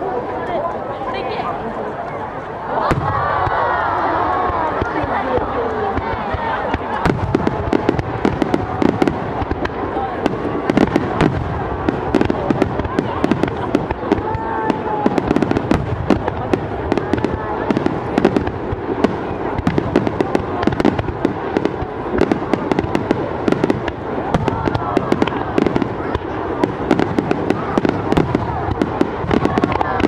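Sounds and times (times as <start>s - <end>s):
fireworks bangs and crackles: 2.7s - 30.0s.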